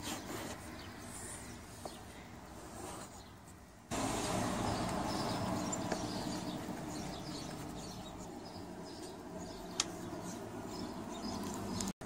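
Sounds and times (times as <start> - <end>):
faint birds chirping: 0.0 - 12.0
outdoor background hum: 0.0 - 12.0.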